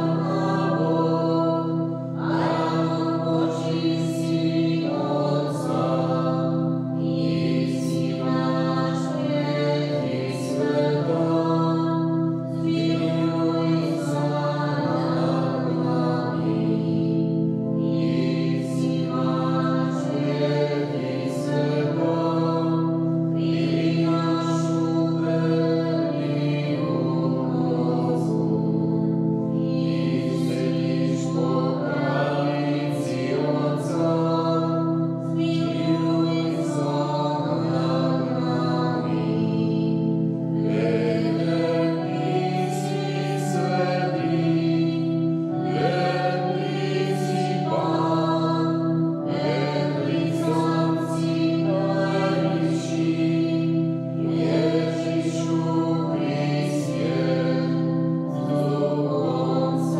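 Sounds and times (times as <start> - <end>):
organ chords: 0.0 - 59.9
voices singing a hymn: 0.0 - 59.9.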